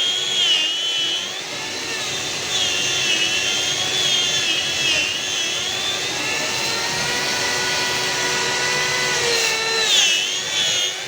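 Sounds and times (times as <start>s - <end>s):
electric power sander on wood: 0.0s - 11.0s.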